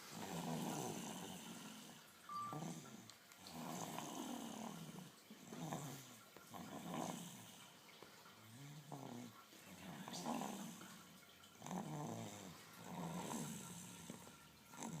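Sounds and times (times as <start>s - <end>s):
rattling snoring: 0.0s - 7.7s, 8.4s - 11.0s, 11.6s - 15.0s.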